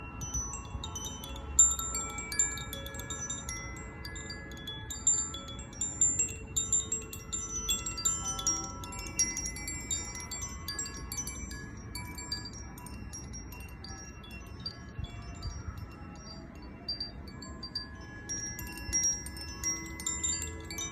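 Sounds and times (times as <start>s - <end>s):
wind chime ringing: 0.0s - 20.9s.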